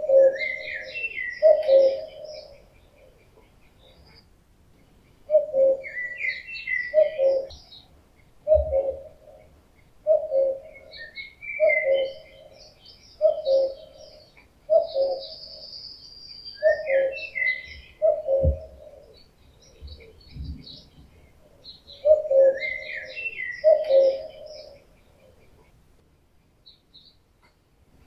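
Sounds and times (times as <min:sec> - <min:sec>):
cuckoo call: 0:00.0 - 0:04.2, 0:05.3 - 0:07.8, 0:08.4 - 0:20.9, 0:21.9 - 0:25.8
songbirds chirping: 0:00.0 - 0:28.0.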